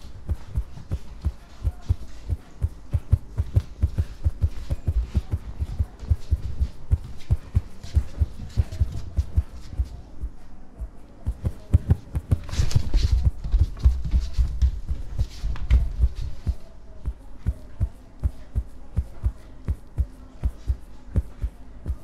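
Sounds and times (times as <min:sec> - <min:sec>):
heartbeat thumps: 0:00.0 - 0:22.0.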